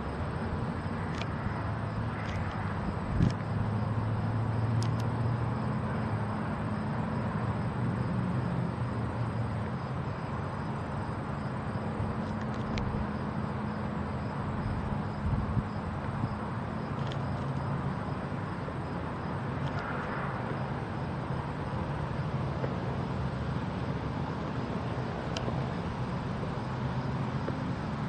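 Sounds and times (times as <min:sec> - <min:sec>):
distant road traffic hum: 0:00.0 - 0:28.0.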